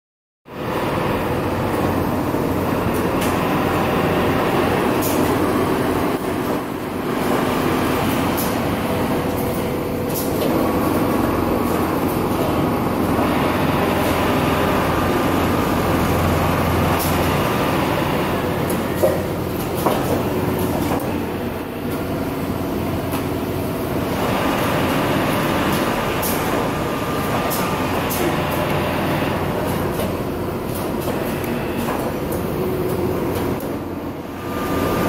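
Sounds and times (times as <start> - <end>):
factory machinery noise: 0.5 - 35.0
sewing machine running: 1.6 - 21.7, 23.8 - 32.6.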